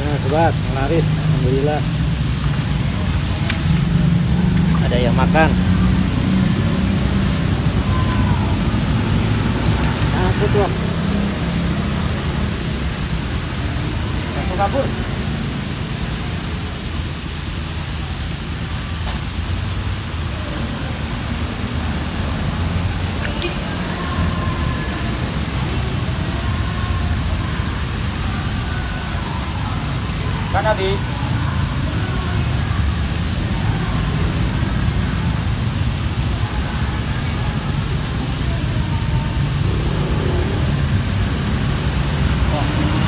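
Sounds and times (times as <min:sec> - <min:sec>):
water spraying from pond aerators: 0:00.0 - 0:43.0.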